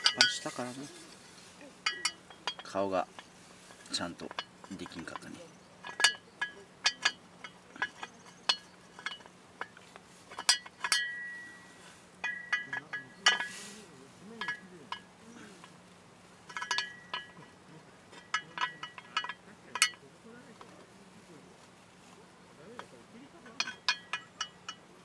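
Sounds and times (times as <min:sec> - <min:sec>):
metal cookware clinking: 0:00.0 - 0:15.8, 0:16.4 - 0:20.9, 0:22.3 - 0:25.0.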